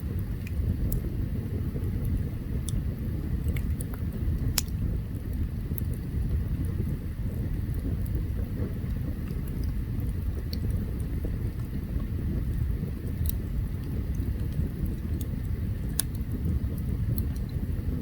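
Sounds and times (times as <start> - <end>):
campfire low rumble: 0.0 - 18.0
fire crackles and pops: 0.0 - 18.0.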